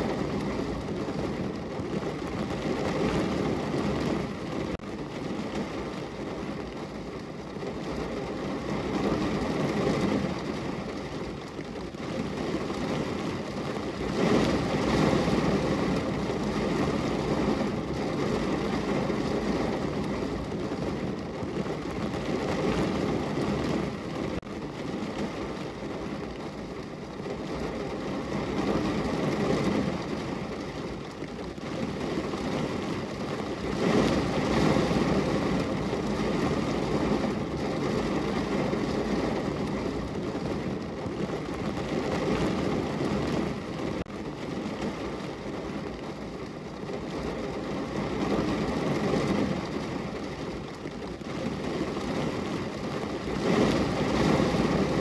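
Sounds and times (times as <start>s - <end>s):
rain falling on a window: 0.0s - 55.0s.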